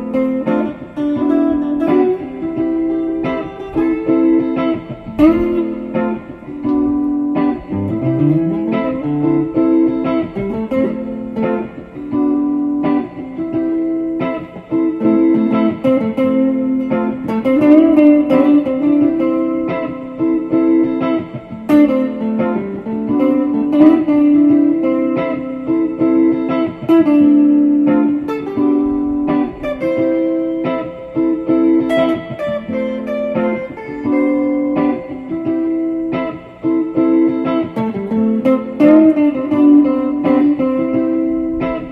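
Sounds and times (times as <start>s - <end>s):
guitar playing picked notes: 0.0s - 41.9s.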